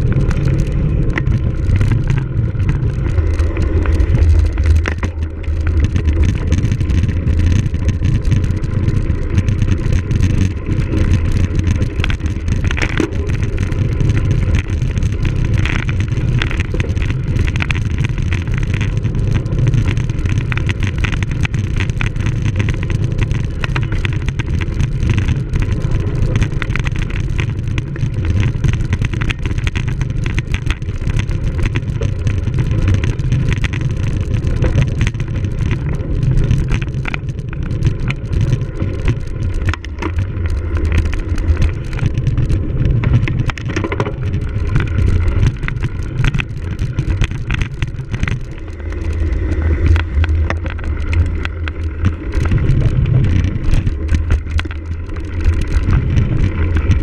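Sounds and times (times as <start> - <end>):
bike clattering over rough ground: 0.0 - 57.0
wind on microphone: 0.0 - 57.0.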